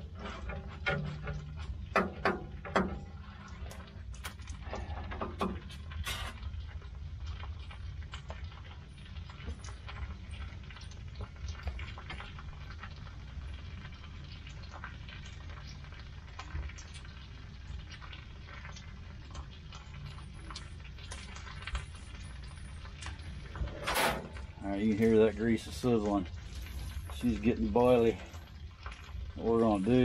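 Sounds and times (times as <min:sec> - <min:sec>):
grease sizzling and popping: 0:00.0 - 0:30.0.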